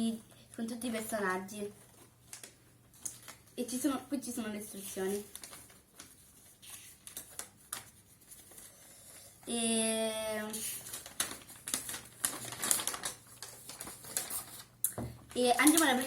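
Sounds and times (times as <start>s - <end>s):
plastic packets crinkling: 0.6s - 8.6s, 10.6s - 16.0s.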